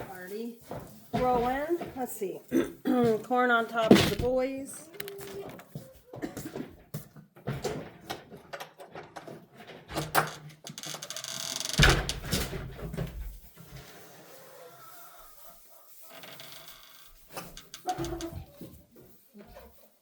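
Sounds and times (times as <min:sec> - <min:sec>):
scraping and rustling: 0:00.0 - 0:20.0.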